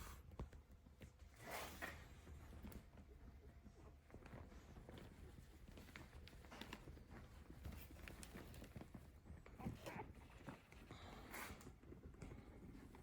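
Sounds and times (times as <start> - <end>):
puppies clicking and scuffling: 2.2 - 13.0.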